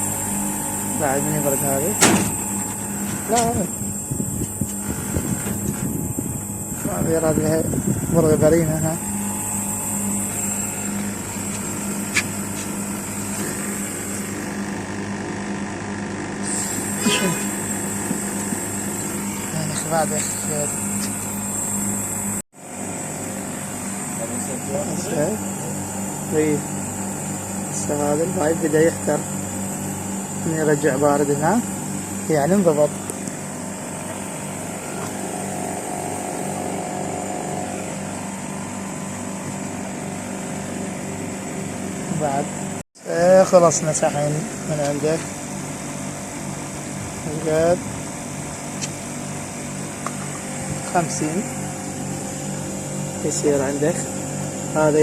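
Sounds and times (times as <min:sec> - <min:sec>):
air conditioner humming: 0:00.0 - 0:14.9, 0:16.4 - 0:55.0.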